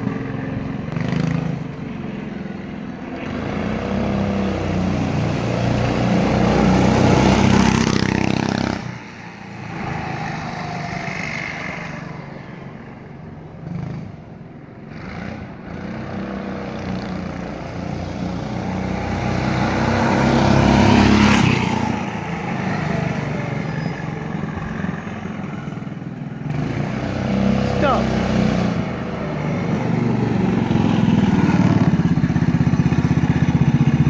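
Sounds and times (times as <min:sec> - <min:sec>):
go-kart engine running: 0:00.0 - 0:34.0.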